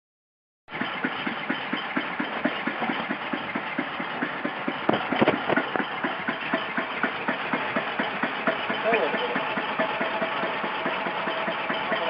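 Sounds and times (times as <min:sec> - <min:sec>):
boat engine idling: 0:00.7 - 0:12.0.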